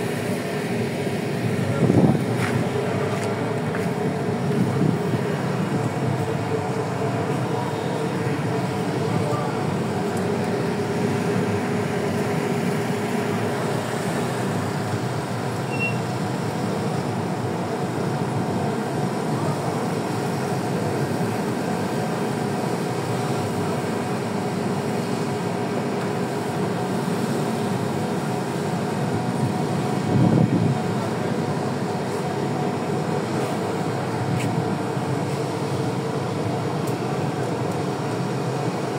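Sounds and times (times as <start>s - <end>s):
boat engines droning: 0.0s - 38.9s.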